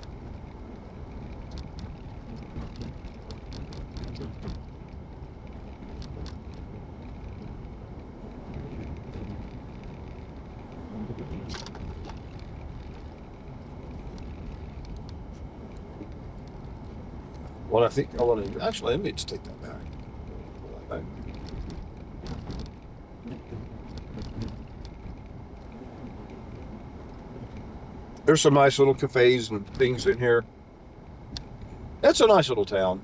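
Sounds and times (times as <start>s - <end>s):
small clicks and rattles: 0.0s - 28.4s, 29.3s - 30.3s, 31.3s - 32.8s
car engine and tyre rumble: 0.0s - 33.0s.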